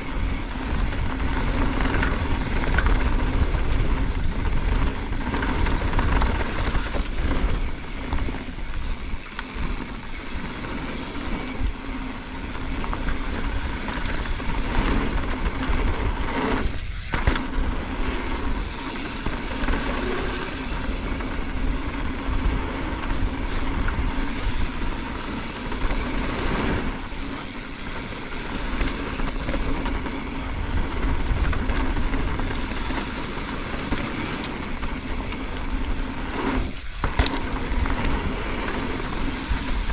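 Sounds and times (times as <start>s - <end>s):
bike rattling: 0.0s - 39.9s
tyres rumbling over dirt: 0.0s - 39.9s
wind over microphone: 0.0s - 39.9s.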